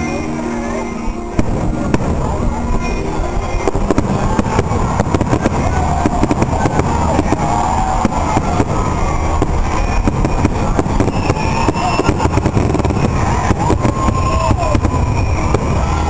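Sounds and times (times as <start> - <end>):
continuous low rumble: 0.0 - 16.0
fireworks bangs: 0.0 - 16.0.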